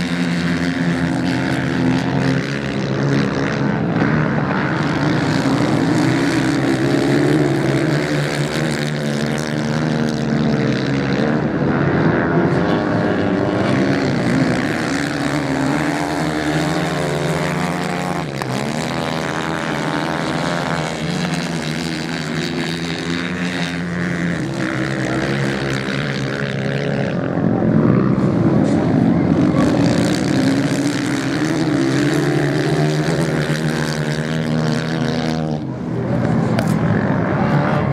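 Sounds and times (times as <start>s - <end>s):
motorcycle passing by: 0.0s - 37.9s
racing motorcycle engines revving: 0.0s - 37.9s.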